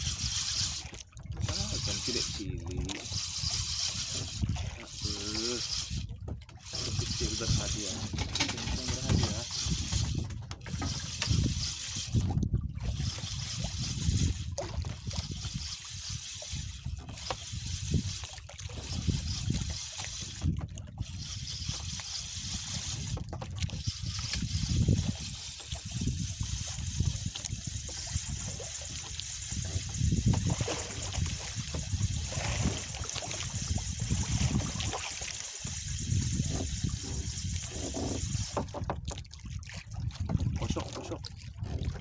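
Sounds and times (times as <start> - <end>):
water lapping against boat hull: 0.0 - 42.0.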